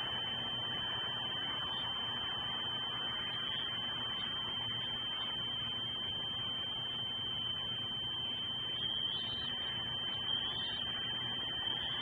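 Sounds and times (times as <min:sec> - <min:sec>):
constant hiss: 0:00.0 - 0:12.0
high-pitched electronic whine: 0:00.0 - 0:12.0.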